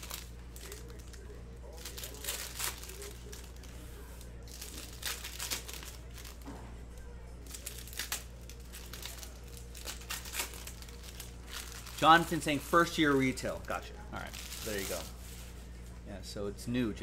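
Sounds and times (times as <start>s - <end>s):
foil packs crinkling and tearing: 0.0s - 6.5s, 7.4s - 15.5s.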